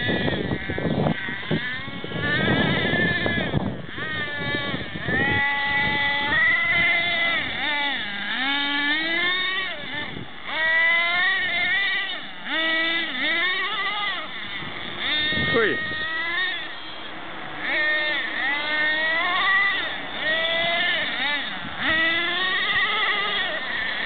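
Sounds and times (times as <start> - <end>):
small nitro engine revving: 0.0 - 24.0.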